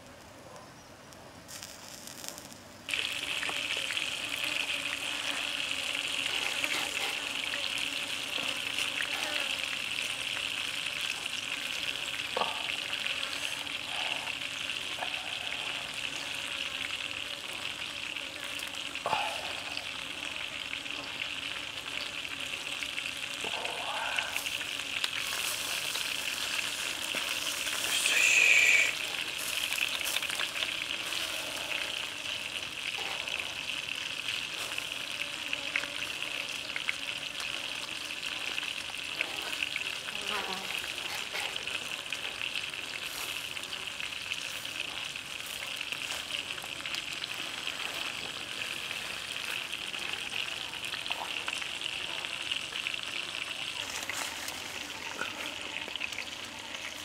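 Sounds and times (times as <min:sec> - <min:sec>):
chicken sizzling over charcoal: 0:00.0 - 0:57.0.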